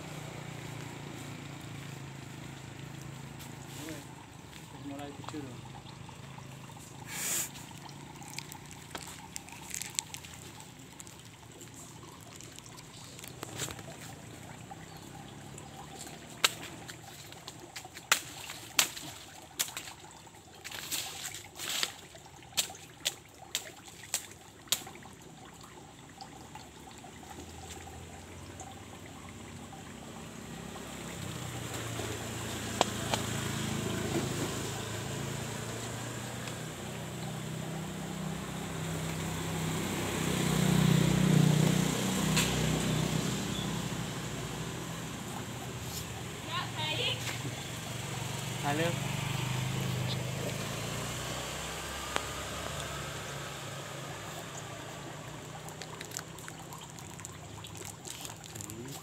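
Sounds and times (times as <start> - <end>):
low engine hum: 0.0 - 59.0
water trickling: 0.0 - 59.0.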